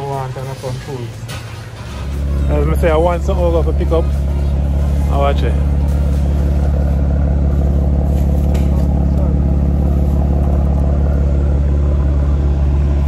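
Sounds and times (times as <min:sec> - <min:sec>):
vehicle engine idling: 0:01.8 - 0:13.0.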